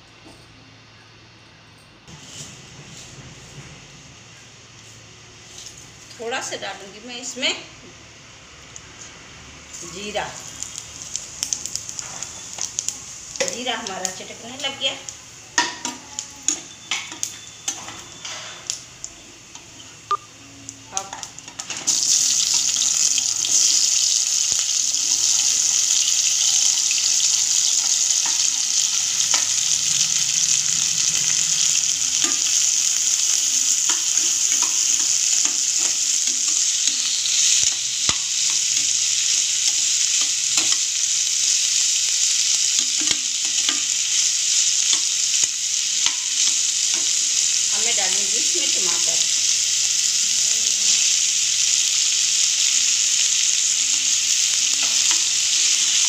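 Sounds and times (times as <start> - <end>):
vegetables sizzling in hot oil: 2.1 - 56.0.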